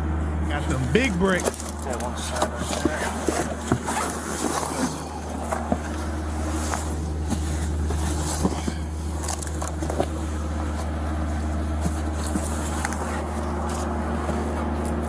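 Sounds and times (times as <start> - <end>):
low engine-like hum: 0.0 - 15.0
blanket and boxes rustling: 0.7 - 15.0.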